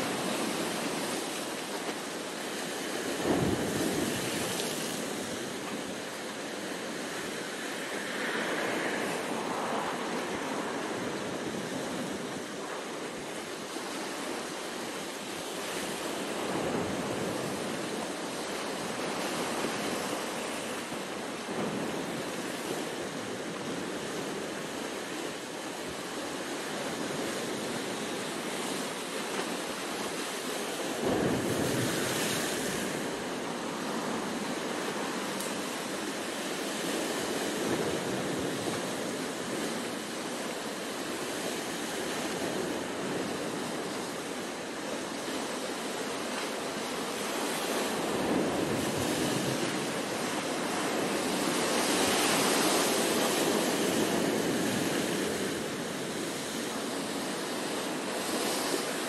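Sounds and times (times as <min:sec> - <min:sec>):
surf washing over rocks: 0:00.0 - 0:59.0.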